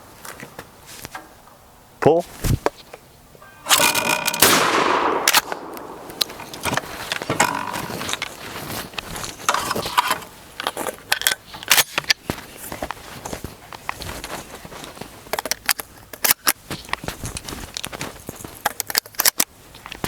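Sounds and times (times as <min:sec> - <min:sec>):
shotgun being handled: 0:03.7 - 0:20.0.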